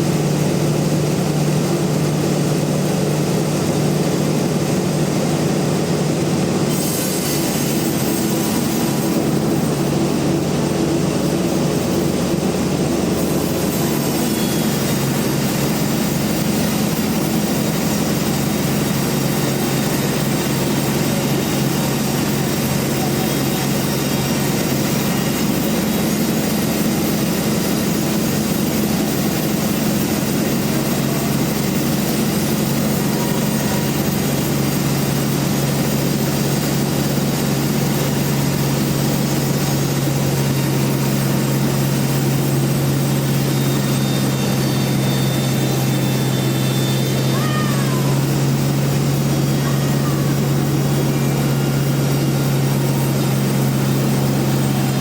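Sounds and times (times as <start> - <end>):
bandsaw mill droning: 0.0 - 55.0.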